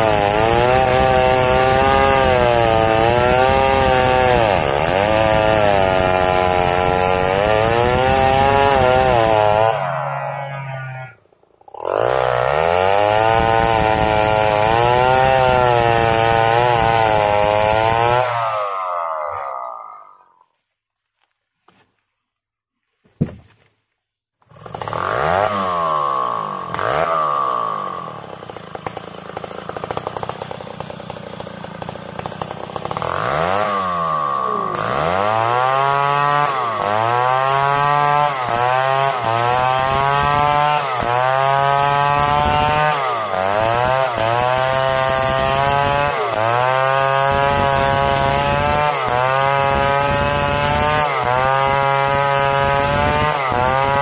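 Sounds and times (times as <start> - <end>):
chainsaw cutting log: 0.0 - 20.4, 24.4 - 54.0.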